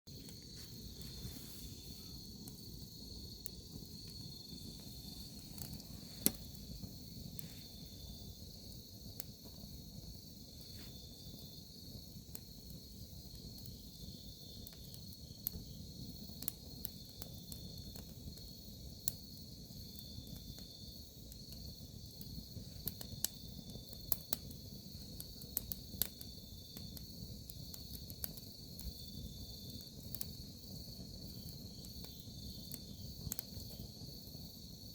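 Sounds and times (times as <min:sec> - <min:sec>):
campfire crackling and popping: 0:00.1 - 0:34.9
crickets chirping: 0:00.1 - 0:34.9.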